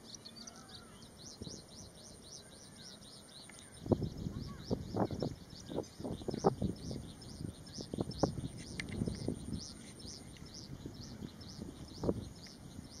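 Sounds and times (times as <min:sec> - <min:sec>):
bird chirping rapidly: 0:00.0 - 0:13.0.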